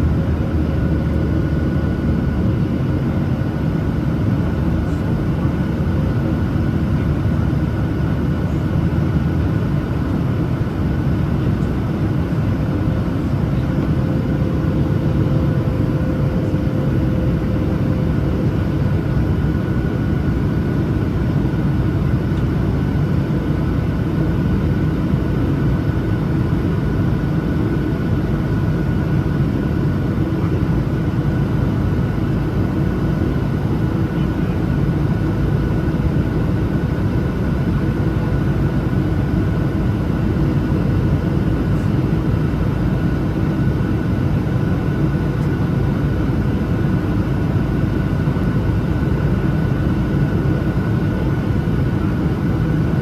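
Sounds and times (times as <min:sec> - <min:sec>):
airplane cabin engine noise: 0:00.0 - 0:53.0.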